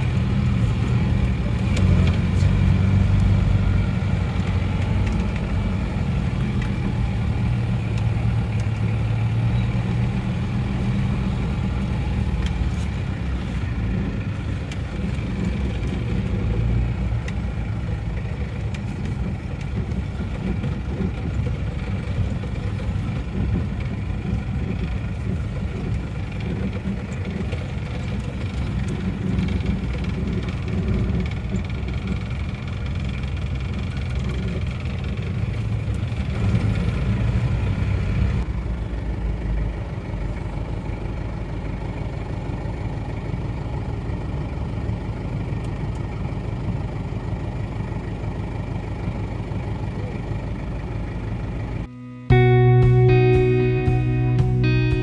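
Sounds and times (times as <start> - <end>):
van engine low rumble: 0.0 - 55.0.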